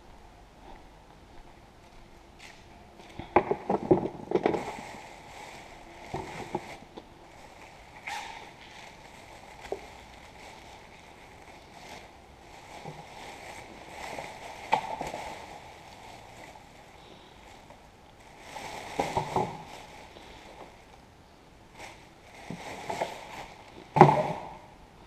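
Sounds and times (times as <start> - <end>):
plastic bag rustling and crinkling: 0.6 - 24.7
plastic bag sharp crackles: 2.3 - 21.0, 21.7 - 24.6.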